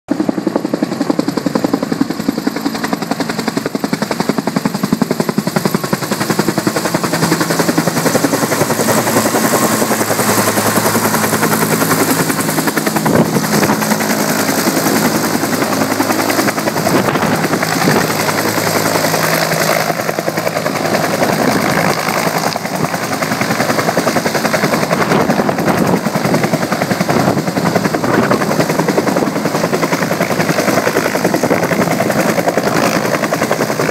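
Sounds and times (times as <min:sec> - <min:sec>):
helicopter engine tone: 0:00.1 - 0:33.9
helicopter rotor beating: 0:00.1 - 0:33.9.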